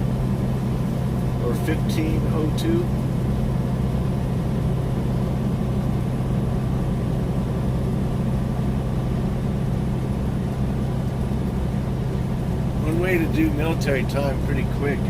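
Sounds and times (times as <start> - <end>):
truck engine droning in cab: 0.0 - 15.0.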